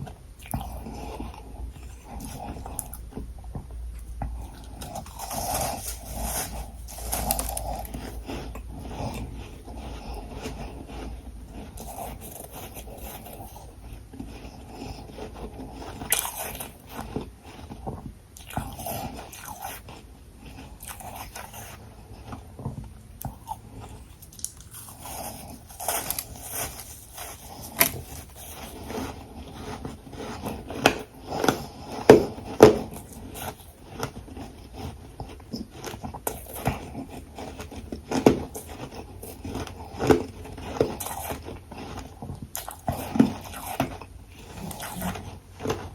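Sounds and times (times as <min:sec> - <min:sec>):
person chewing ice crunching: 0:00.0 - 0:45.9.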